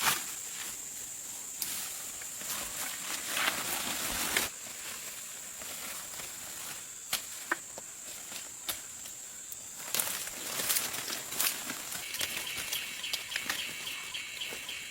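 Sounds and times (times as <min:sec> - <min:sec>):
high insect drone: 0:00.0 - 0:14.9
rustling in dry leaves: 0:00.0 - 0:14.9.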